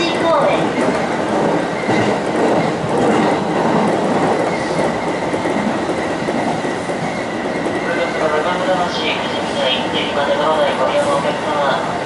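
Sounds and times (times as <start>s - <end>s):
rumble of train wheels on track: 0.0s - 12.0s
thin steady train whine: 0.0s - 12.0s.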